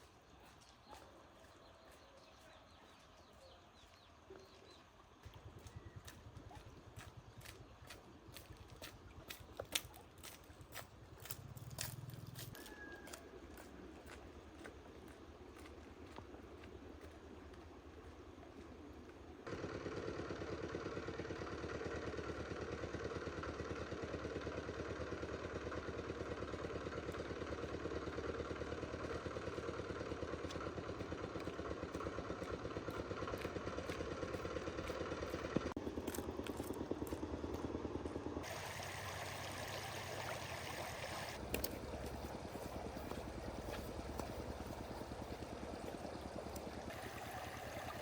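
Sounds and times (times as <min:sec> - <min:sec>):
engine running steadily: 0:04.9 - 0:48.0.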